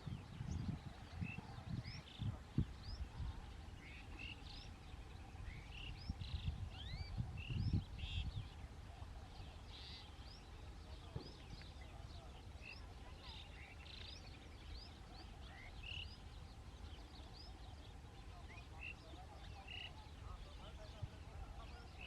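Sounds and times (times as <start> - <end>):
starlings chirping: 0.0 - 22.0.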